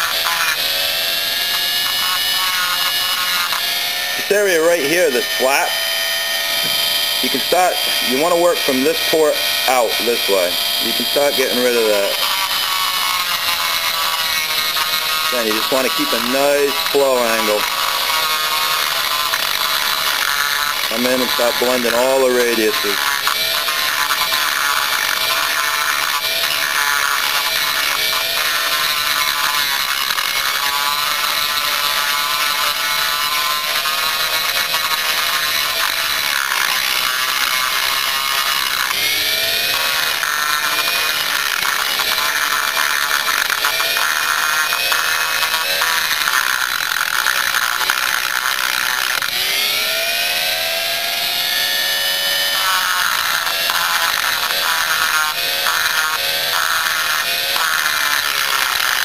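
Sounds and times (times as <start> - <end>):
rotary tool grinding metal: 0.0 - 59.0.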